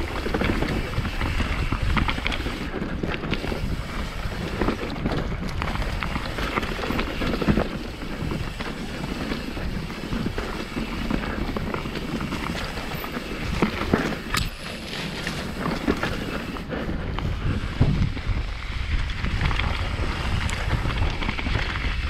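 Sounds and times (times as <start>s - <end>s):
bike rattles and knocks: 0.0s - 22.0s
mountain bike rumbling on dirt: 0.0s - 22.0s
wind buffeting microphone: 0.0s - 22.0s.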